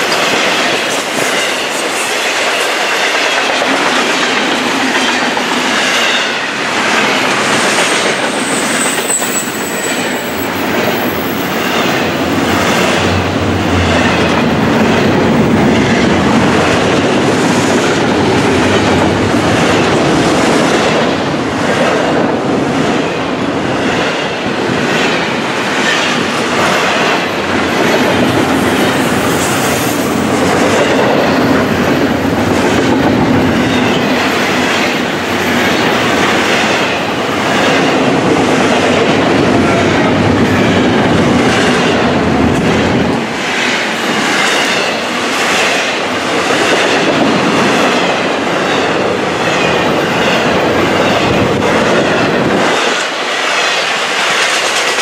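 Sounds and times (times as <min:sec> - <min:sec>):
freight train rumbling past: 0:00.0 - 0:55.0
train wheels clickety-clack: 0:00.0 - 0:55.0.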